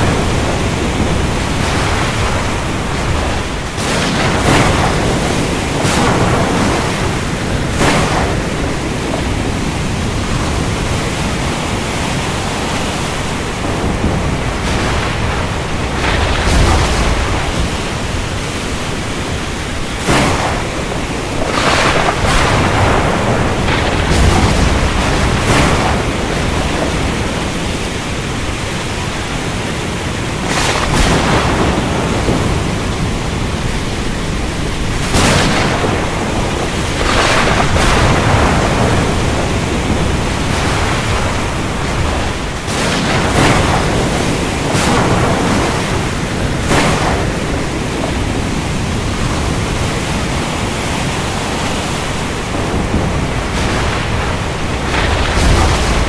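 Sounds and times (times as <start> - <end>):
sharp thunder cracks: 0.0 - 51.3, 52.1 - 56.0
heavy rain: 0.0 - 56.0
low thunder rumble: 0.0 - 56.0.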